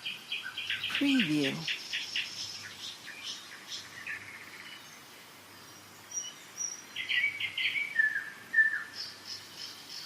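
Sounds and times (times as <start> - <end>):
songbirds singing: 0.0 - 10.0.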